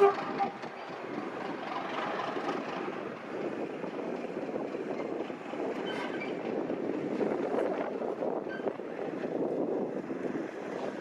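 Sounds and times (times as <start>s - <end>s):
train running past: 0.0s - 11.0s.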